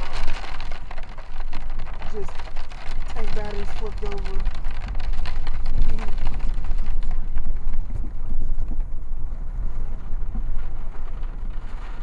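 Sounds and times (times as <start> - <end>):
road and wind noise: 0.0 - 12.0
vehicle driving rumble: 0.0 - 12.0.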